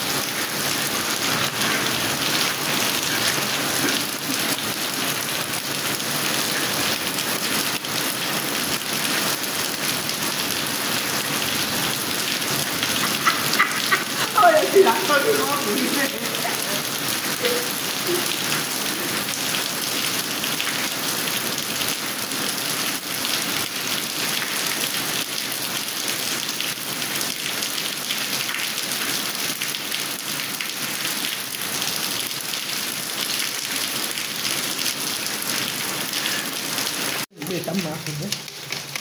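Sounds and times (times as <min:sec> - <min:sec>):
rain splashing on wet pavement: 0:00.0 - 0:39.0.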